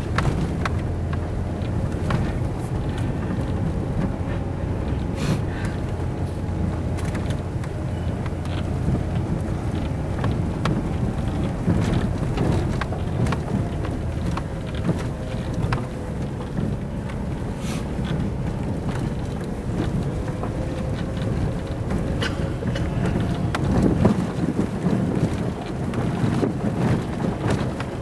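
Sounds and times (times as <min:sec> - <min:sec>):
rattling clicks and knocks: 0:00.0 - 0:28.0
vehicle driving on rough road: 0:00.0 - 0:28.0.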